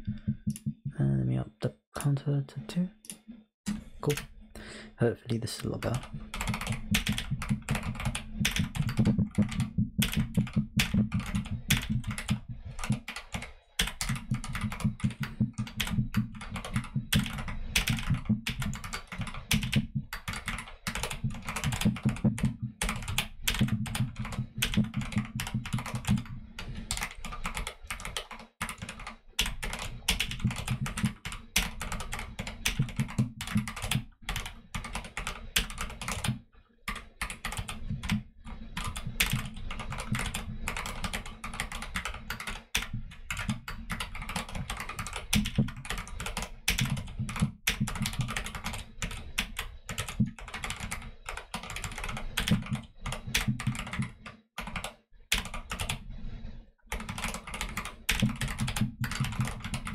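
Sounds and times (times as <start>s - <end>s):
mechanical keyboard typing: 5.7s - 56.0s, 56.9s - 59.9s.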